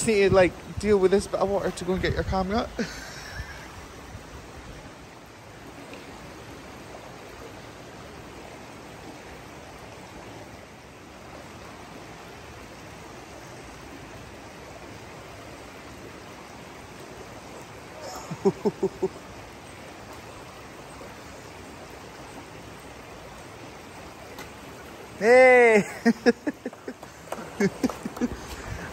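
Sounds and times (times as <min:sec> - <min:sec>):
stream rushing over rocks: 0:00.0 - 0:28.9.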